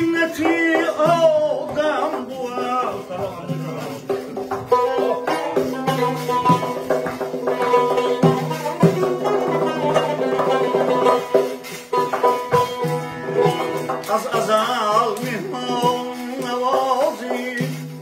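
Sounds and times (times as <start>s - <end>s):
frame drum beating: 0.0s - 18.0s
plucked lute strings: 0.0s - 18.0s.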